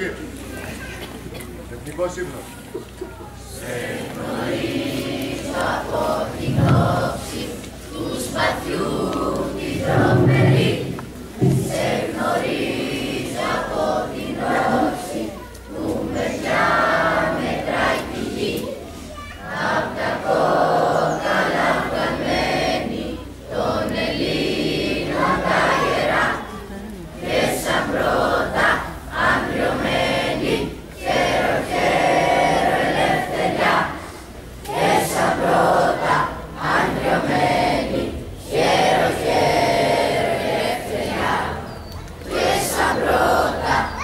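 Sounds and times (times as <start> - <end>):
crowd singing together: 3.4 - 44.0.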